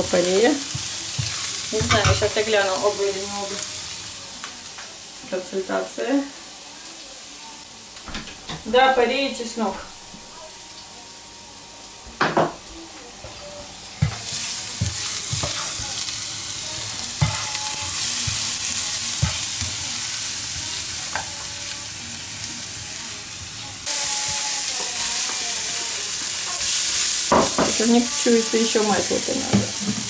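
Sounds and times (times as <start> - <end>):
garlic sizzling in oil: 0.0 - 7.8, 12.9 - 30.0.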